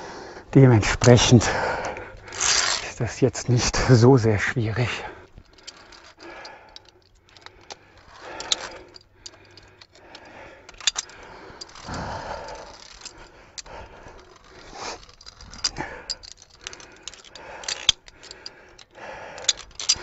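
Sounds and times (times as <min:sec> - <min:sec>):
carabiners clinking on steel cable: 0:00.7 - 0:20.0.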